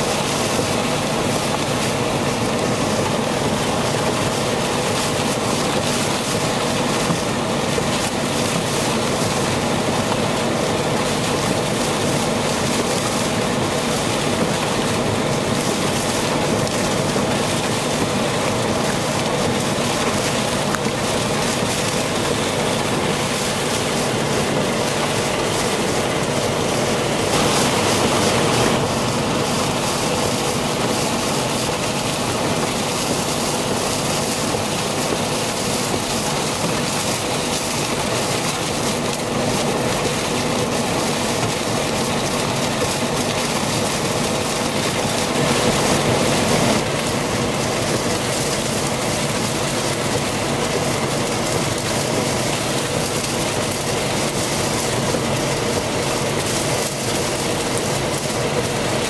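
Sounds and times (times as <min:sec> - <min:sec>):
heavy rainstorm: 0:00.0 - 0:59.0
rough floodwater rushing: 0:00.0 - 0:59.0.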